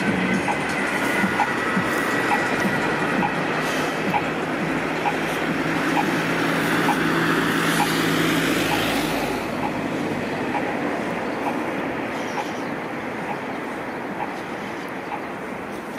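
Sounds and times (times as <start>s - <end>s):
vehicle passing close by: 0.0s - 15.6s
road traffic: 0.0s - 15.9s.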